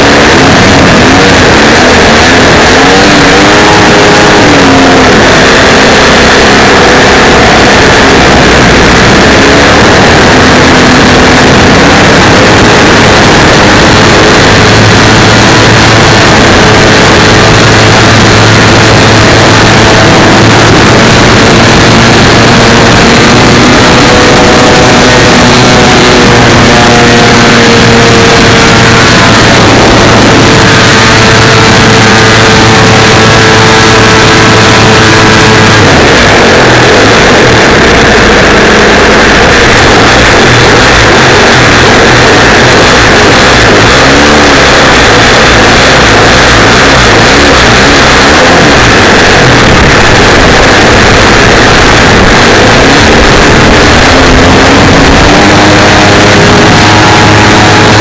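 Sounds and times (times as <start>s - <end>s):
model plane engine droning: 0.0s - 58.0s
wind rushing over microphone: 0.0s - 58.0s.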